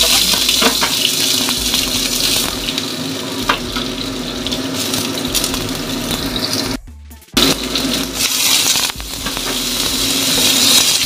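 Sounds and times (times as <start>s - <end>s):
onion sizzling in hot oil: 0.0s - 6.8s, 7.4s - 11.0s.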